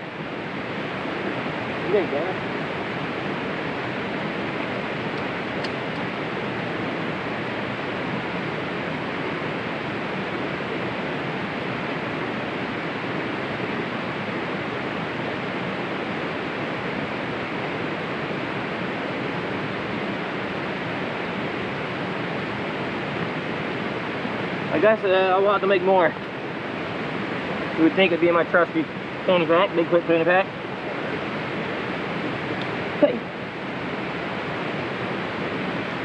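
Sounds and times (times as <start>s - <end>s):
rain: 0.0s - 36.0s
wind: 0.0s - 36.0s.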